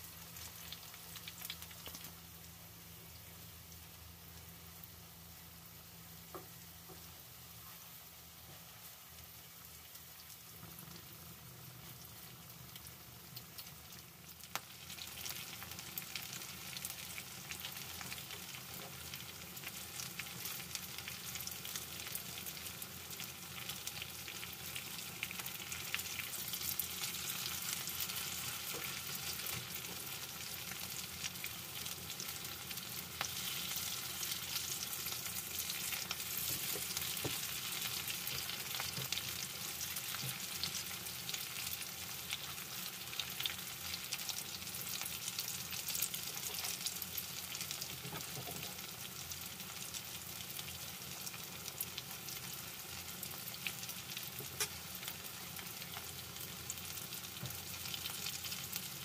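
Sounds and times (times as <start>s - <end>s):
patties sizzling in hot oil: 0.0s - 59.0s.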